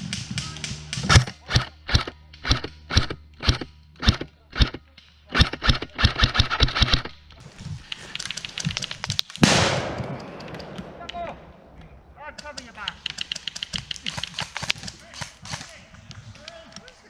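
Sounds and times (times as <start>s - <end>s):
airsoft guns firing: 0.1s - 15.8s.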